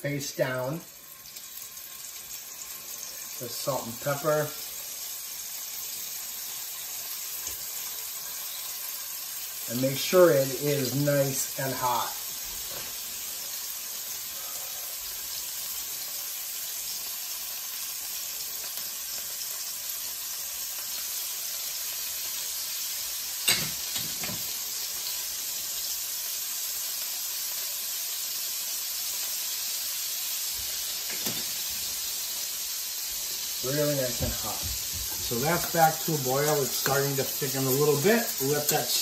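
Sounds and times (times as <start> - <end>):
scallops sizzling in pan: 0.0 - 39.0.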